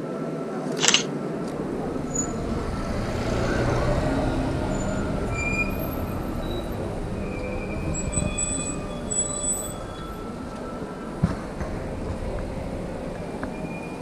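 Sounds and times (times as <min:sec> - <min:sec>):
passing vehicle engines rumbling: 0:01.2 - 0:14.0.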